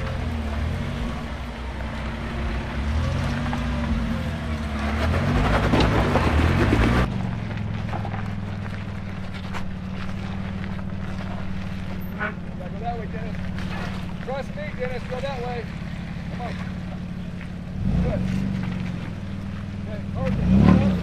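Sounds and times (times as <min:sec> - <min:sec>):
low engine hum: 0:00.0 - 0:21.0
off-road engine revving: 0:00.0 - 0:21.0
tyres crunching gravel: 0:00.0 - 0:21.0.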